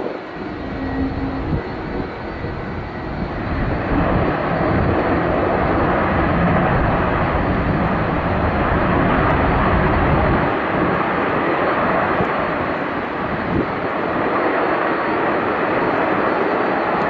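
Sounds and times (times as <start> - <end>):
jet engines rushing: 0.0 - 17.0.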